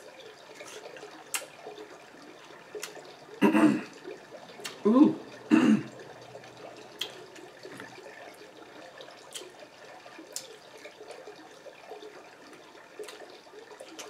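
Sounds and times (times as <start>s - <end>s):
wet eating sounds: 0.0s - 14.0s.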